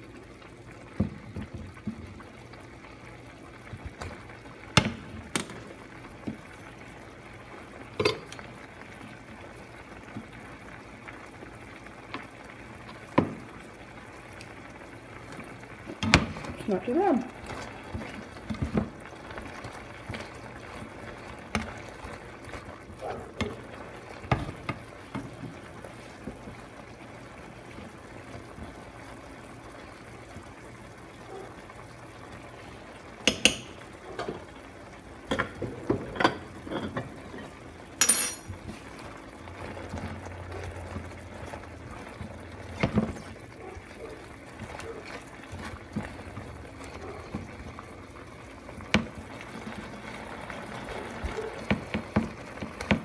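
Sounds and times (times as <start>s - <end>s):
chicken sizzling in a skillet: 0.0s - 53.0s.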